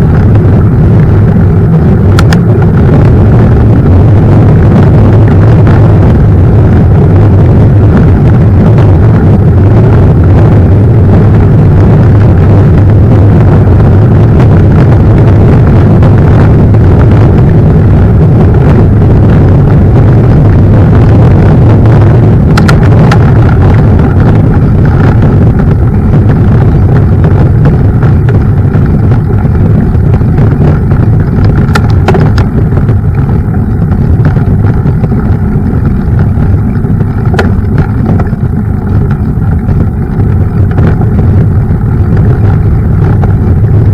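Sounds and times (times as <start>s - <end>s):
mountain bike rolling rumble: 0.0s - 43.9s
wind buffeting microphone: 0.0s - 43.9s.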